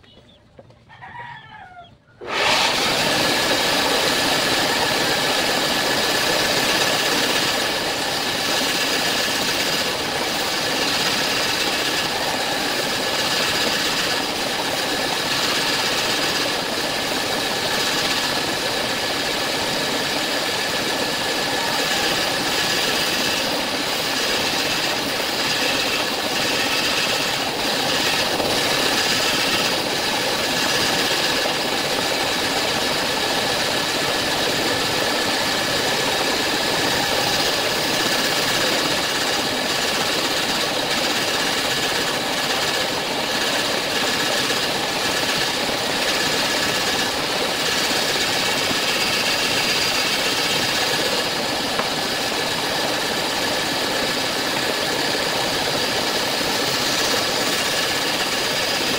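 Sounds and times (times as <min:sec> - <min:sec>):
bandsaw cutting wood: 0:02.2 - 0:58.9
bandsaw whine: 0:02.2 - 0:58.9.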